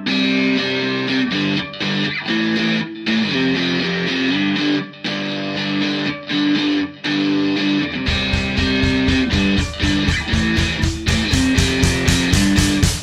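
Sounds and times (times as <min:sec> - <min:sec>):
distorted electric guitar: 0:00.0 - 0:13.0.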